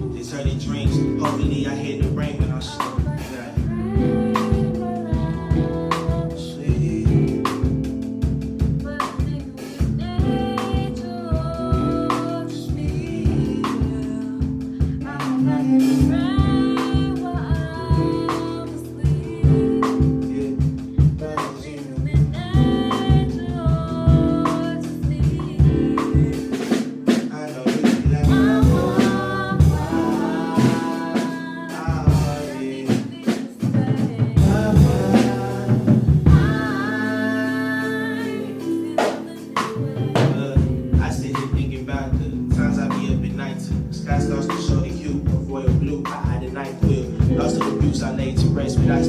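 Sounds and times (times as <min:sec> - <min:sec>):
drum kit beat: 0:00.0 - 0:49.0
keyboard chords: 0:00.0 - 0:49.0
person singing: 0:00.0 - 0:49.0.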